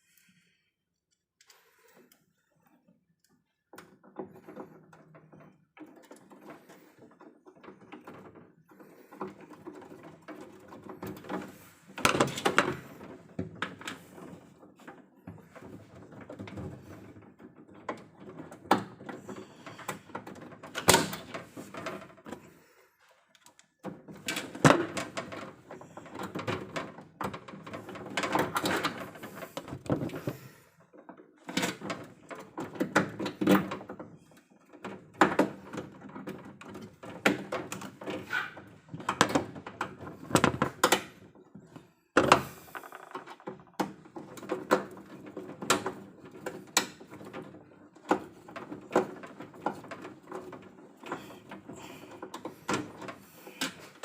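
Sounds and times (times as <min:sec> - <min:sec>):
clicking and rattling of hand work: 0:01.0 - 0:54.0.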